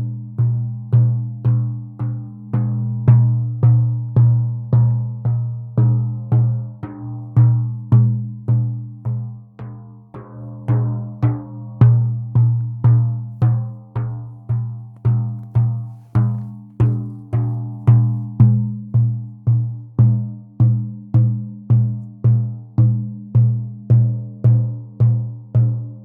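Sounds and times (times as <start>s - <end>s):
frame drum beaten in steady rhythm: 0.0s - 26.0s.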